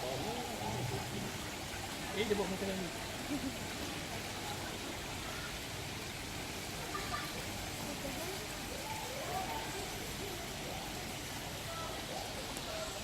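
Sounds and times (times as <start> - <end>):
distant people chattering: 0.0 - 13.0.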